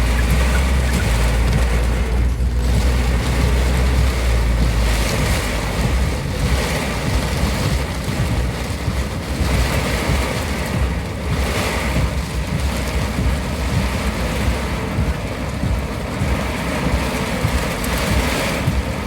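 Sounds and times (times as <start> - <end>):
deep rumble: 0.0 - 19.0
heavy rain pouring: 0.0 - 19.0.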